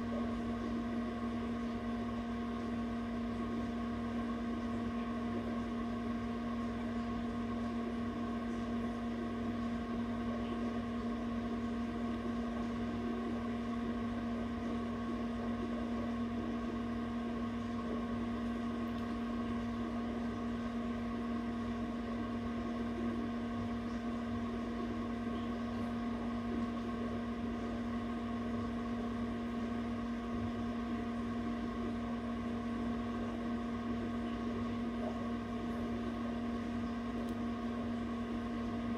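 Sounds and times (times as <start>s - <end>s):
incubator fan motor hum: 0.0s - 38.9s.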